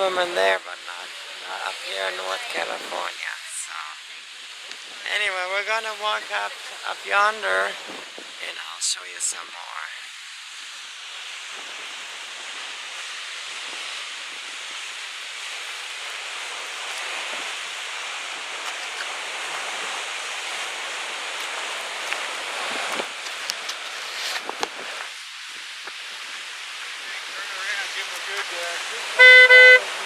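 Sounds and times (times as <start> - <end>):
ocean surf: 0.0 - 30.0
wind: 0.0 - 30.0.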